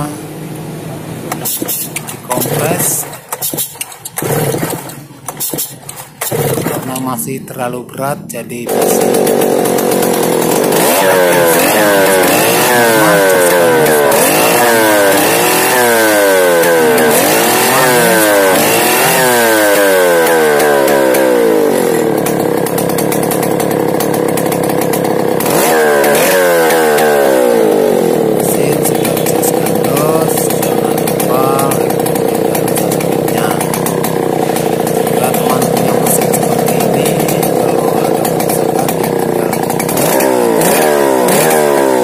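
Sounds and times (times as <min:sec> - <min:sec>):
chainsaw engine idling: 0:00.0 - 0:42.0
chainsaw engine revving: 0:00.0 - 0:42.0.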